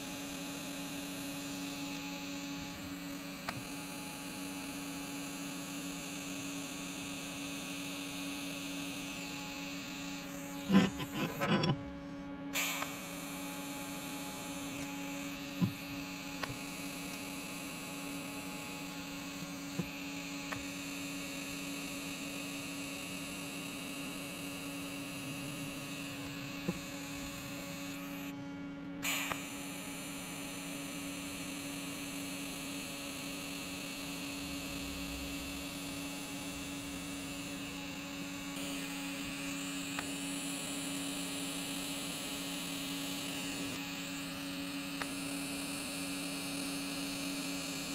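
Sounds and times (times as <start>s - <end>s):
welding arc buzzing and hissing: 0.0s - 11.8s, 12.5s - 28.3s, 29.0s - 47.9s.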